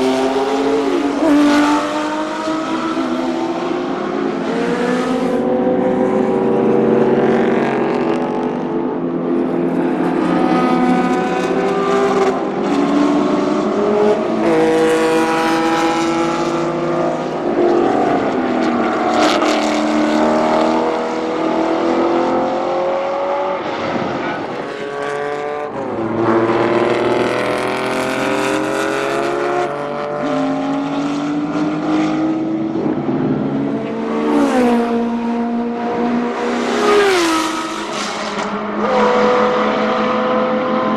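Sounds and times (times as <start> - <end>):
race car engines passing: 0.0 - 40.9.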